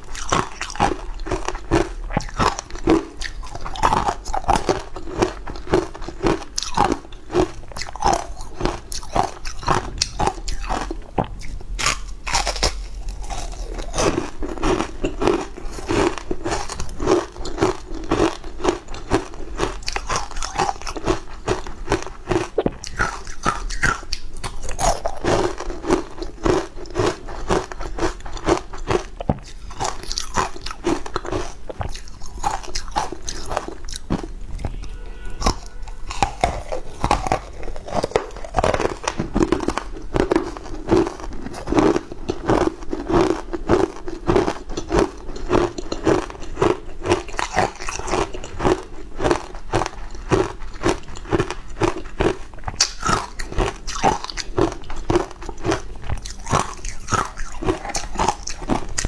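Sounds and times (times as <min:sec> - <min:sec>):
crunchy food chewing: 0:00.0 - 0:59.0.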